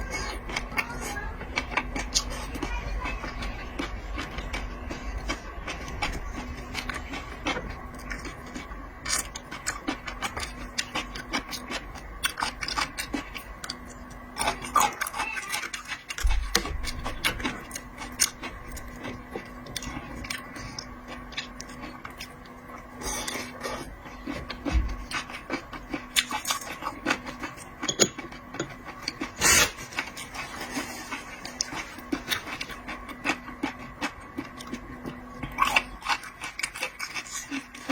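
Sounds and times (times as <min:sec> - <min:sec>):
chewing crunches and wet smacks: 0:00.0 - 0:37.9
faint steady hum: 0:00.0 - 0:37.9.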